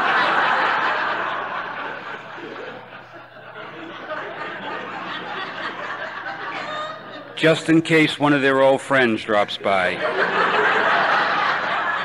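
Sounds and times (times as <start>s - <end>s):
audience laughing: 0.0s - 7.8s, 9.3s - 12.0s.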